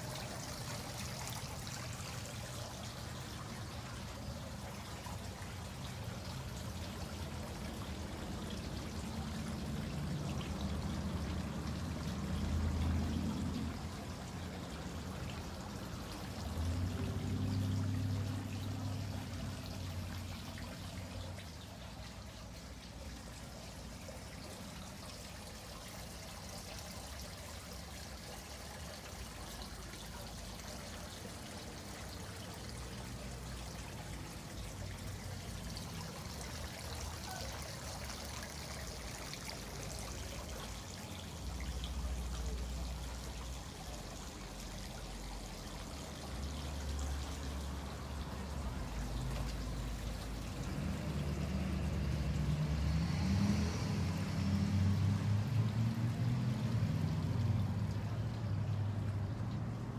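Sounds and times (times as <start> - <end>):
water trickling and pouring: 0.0 - 59.9.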